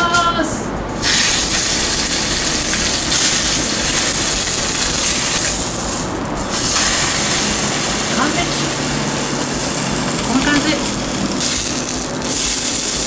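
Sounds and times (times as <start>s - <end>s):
fish sizzling in frying pan: 1.0s - 13.0s.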